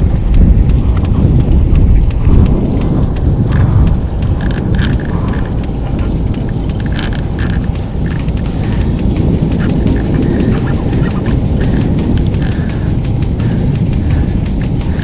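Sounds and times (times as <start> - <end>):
light clicks and rattles: 0.0 - 15.0
wind buffeting microphone: 0.0 - 15.0.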